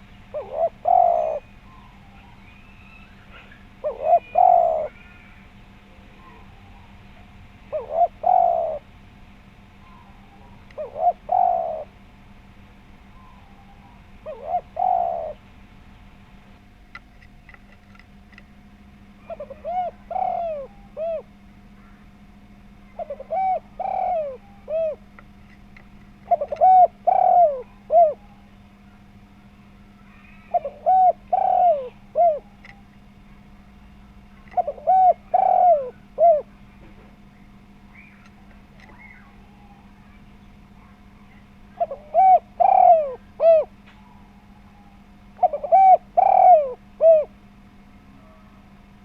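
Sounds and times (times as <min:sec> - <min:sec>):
dove cooing: 0:00.0 - 0:09.0, 0:09.8 - 0:12.1, 0:13.0 - 0:15.6, 0:19.1 - 0:49.0
small birds chirping: 0:00.0 - 0:16.0, 0:19.2 - 0:47.3
faint hum: 0:00.0 - 0:49.0.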